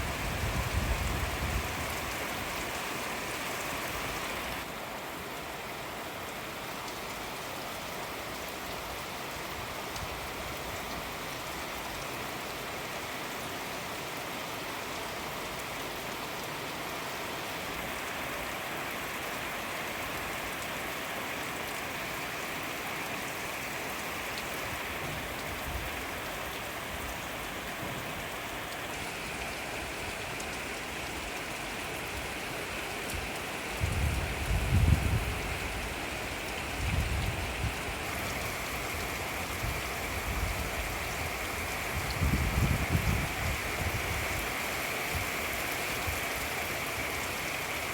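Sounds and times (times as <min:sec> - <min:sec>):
rain hissing: 0:00.0 - 0:47.9.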